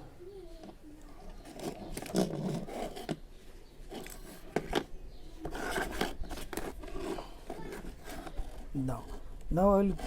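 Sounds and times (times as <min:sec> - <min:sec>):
scraping and rubbing: 0:00.5 - 0:10.0.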